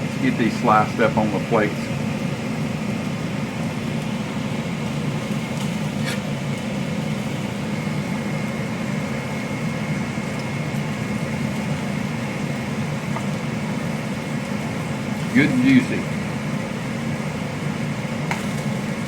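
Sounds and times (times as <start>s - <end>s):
faint steady whine: 0.0s - 19.0s
vent hood fan humming: 0.0s - 19.0s.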